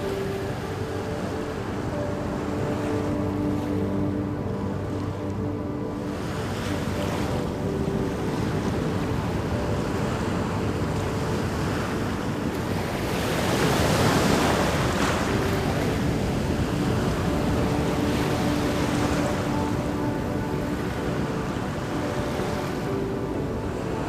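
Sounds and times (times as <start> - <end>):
ocean waves breaking: 0.0 - 24.0.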